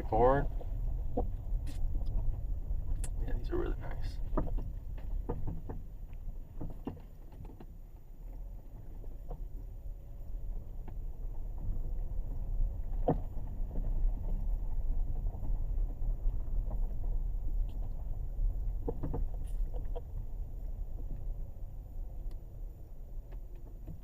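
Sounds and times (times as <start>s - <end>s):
car cabin rumble while driving: 0.0s - 24.0s.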